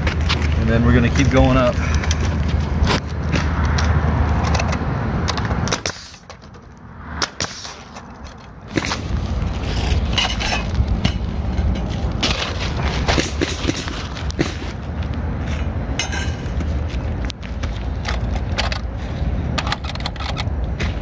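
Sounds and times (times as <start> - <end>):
steady rushing noise: 0.0 - 19.5.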